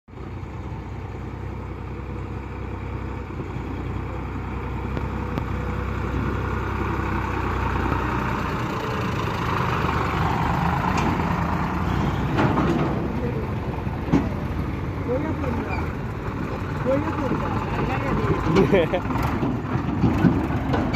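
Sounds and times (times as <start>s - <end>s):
tractor diesel engine running: 0.1s - 20.9s.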